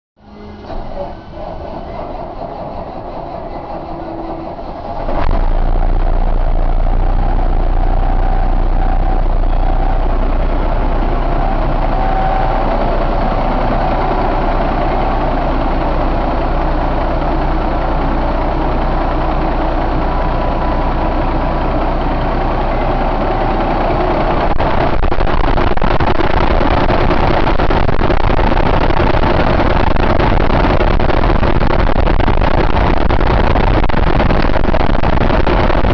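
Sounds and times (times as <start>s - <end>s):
diesel truck engine idling: 0.2s - 35.9s.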